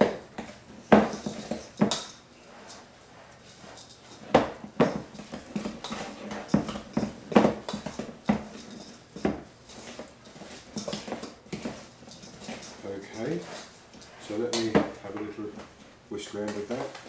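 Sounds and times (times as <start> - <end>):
spoons scraping bowls: 0.4 - 14.8.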